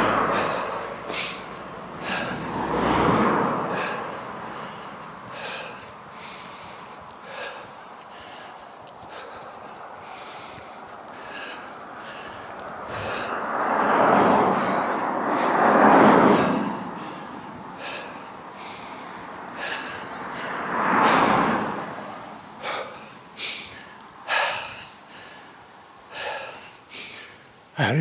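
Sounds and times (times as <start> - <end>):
person breathing heavily: 0.0 - 28.0
vehicles passing by: 0.0 - 28.0.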